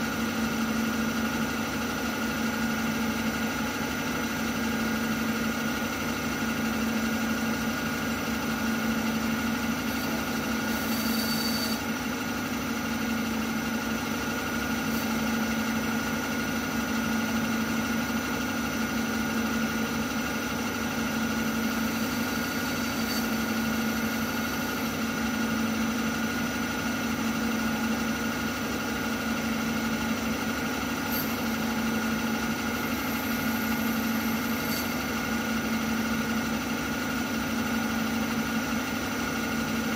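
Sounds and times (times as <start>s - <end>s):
milling machine motor hum and whine: 0.0s - 39.9s.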